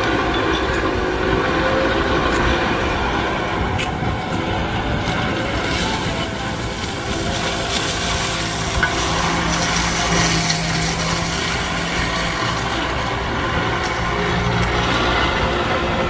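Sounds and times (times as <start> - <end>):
cutter shredding weeds: 0.0 - 16.0
excavator engine hum: 0.0 - 16.0.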